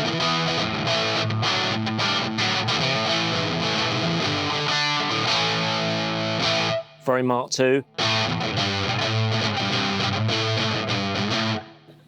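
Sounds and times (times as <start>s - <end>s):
electric guitar with fuzz: 0.0s - 7.0s, 7.8s - 12.0s.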